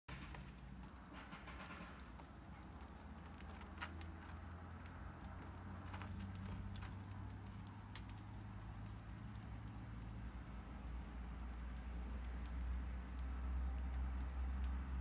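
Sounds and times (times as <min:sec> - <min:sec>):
bird pecking clicks and taps: 0:00.1 - 0:14.9.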